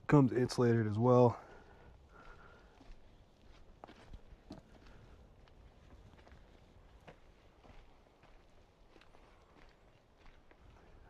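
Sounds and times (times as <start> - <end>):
faint footsteps: 1.4 - 11.0.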